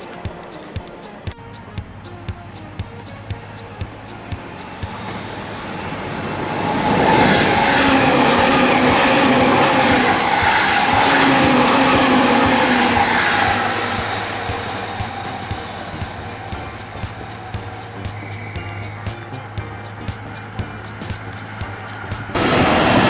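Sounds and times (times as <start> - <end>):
background music with beat: 0.0 - 23.0
train passing: 0.0 - 23.0.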